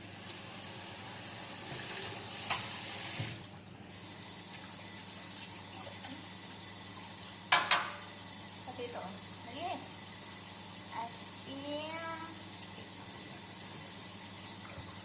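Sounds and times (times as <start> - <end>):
water running into sink: 0.0 - 15.0.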